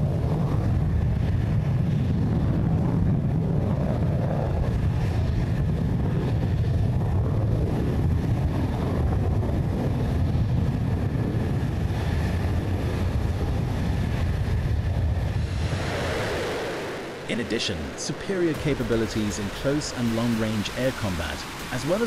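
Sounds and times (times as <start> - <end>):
jet engine rumble: 0.0 - 22.0
thin engine whine: 0.0 - 22.0.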